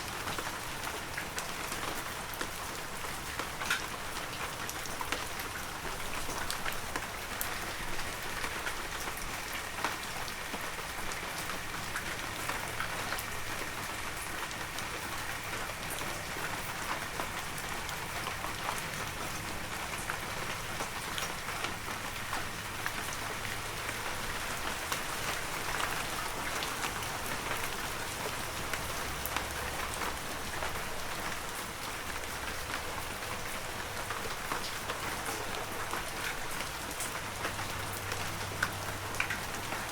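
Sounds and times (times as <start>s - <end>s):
heavy rain falling: 0.0s - 39.9s
raindrops pattering on surfaces: 0.0s - 39.9s.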